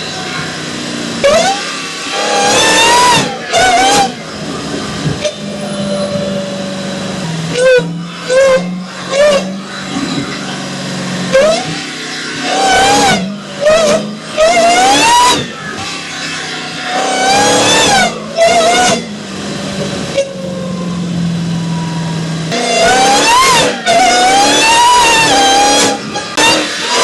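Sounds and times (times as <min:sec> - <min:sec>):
engine revving: 0:00.0 - 0:27.0
supercharger whine: 0:00.0 - 0:27.0.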